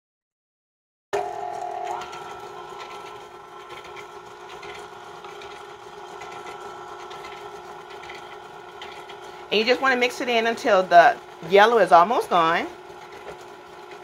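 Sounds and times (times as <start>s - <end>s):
stand mixer motor whine: 1.2s - 14.0s.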